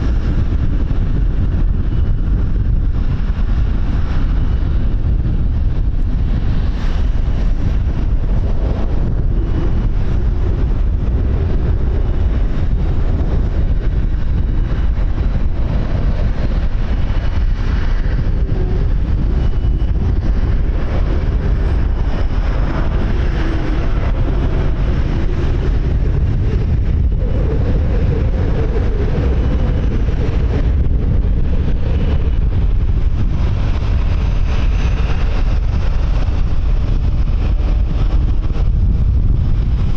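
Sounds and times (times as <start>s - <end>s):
heavy wind buffeting microphone: 0.0s - 39.9s.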